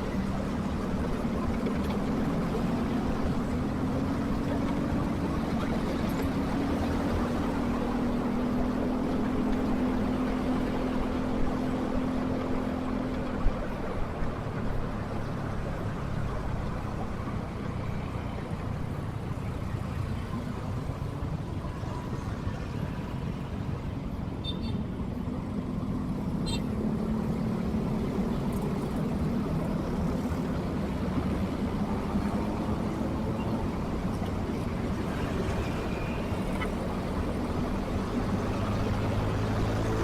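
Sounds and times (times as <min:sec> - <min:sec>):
road and traffic rumble: 0:00.0 - 0:40.0.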